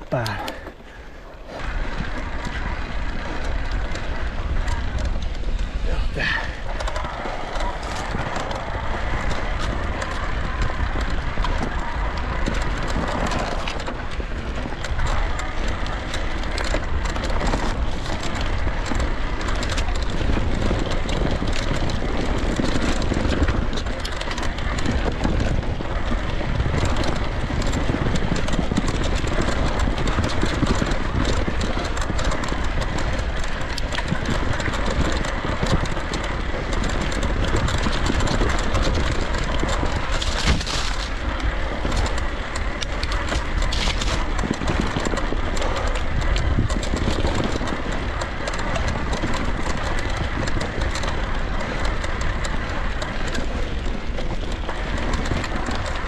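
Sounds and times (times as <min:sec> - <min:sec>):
bike rattling and knocking: 0:00.0 - 0:56.0
bike tyres rumbling on trail: 0:00.0 - 0:56.0.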